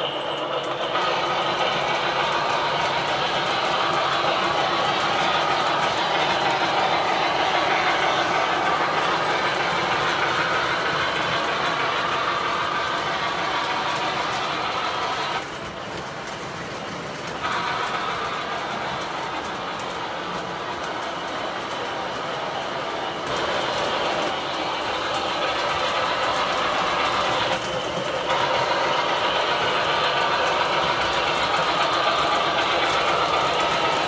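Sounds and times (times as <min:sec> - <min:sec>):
model trains whirring on track: 0:00.0 - 0:34.0.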